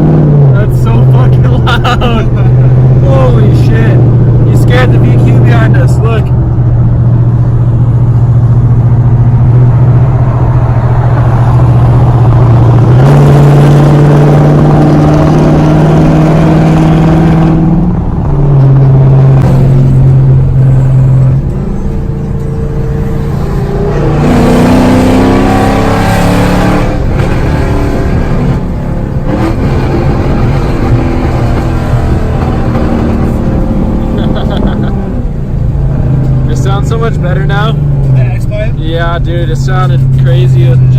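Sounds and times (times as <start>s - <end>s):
loud car exhaust droning: 0.0s - 40.9s.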